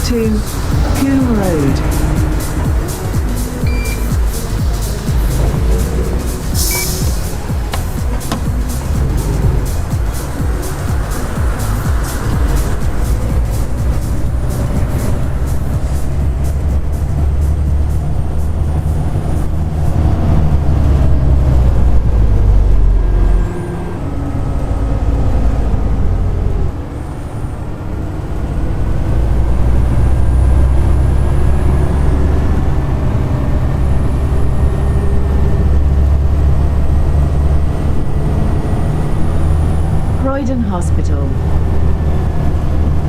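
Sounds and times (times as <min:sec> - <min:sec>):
bus diesel engine rumble: 0:00.0 - 0:43.0
high whine over engine: 0:00.0 - 0:43.0.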